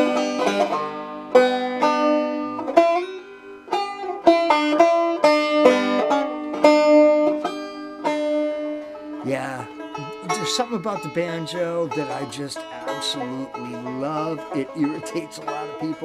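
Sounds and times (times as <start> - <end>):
banjo picking: 0.0 - 16.0.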